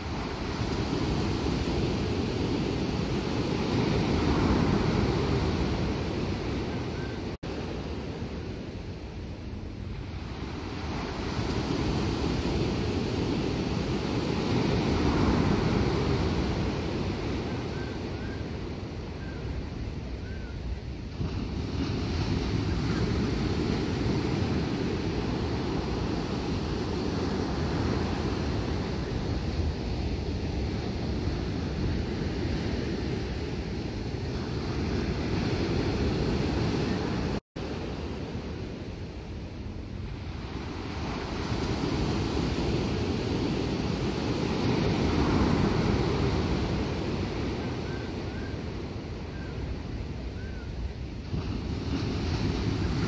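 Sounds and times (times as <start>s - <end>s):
ocean surf breaking: 0.0s - 19.3s, 21.0s - 53.0s
wind rumbling on microphone: 0.0s - 53.0s.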